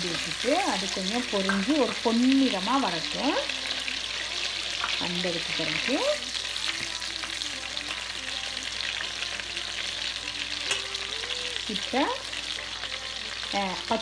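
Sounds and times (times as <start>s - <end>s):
garlic sizzling in butter: 0.0s - 14.0s.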